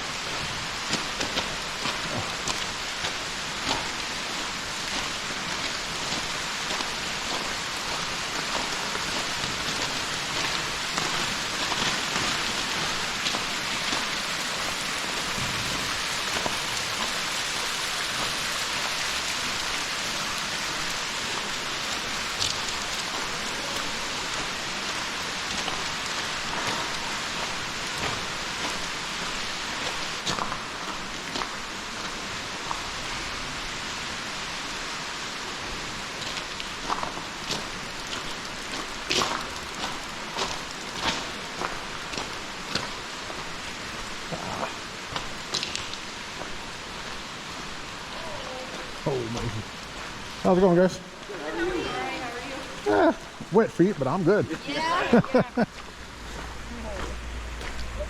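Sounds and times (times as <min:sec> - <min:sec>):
water dripping and pattering: 0:00.1 - 0:58.0.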